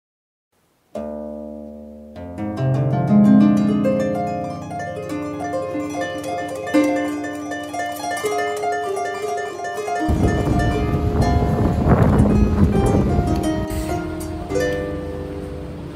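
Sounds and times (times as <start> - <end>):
solo harp music: 0.9 - 15.9.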